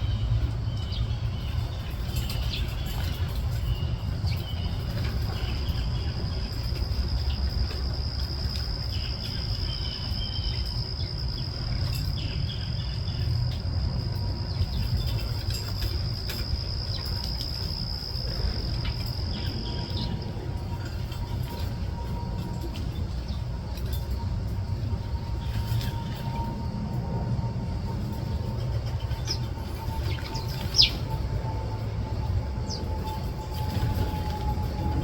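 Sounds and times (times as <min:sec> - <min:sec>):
constant low rumble: 0:00.0 - 0:35.0.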